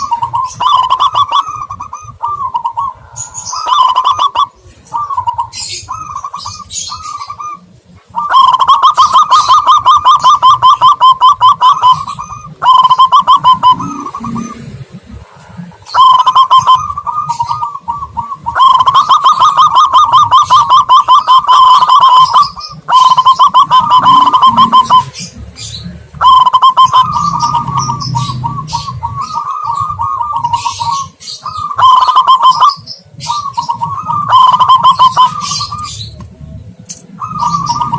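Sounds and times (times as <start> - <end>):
loud dove cooing: 0.0 - 37.9.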